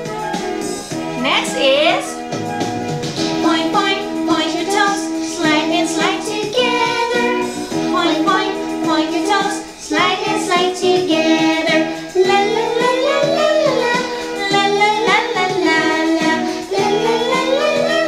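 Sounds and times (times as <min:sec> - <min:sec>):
children's song with backing: 0:00.0 - 0:18.0.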